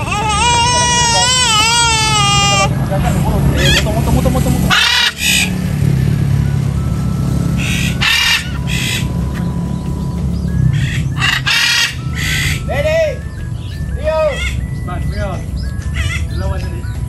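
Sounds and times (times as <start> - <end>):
macaws squawking: 0.0 - 5.9, 7.5 - 9.6, 10.6 - 16.9.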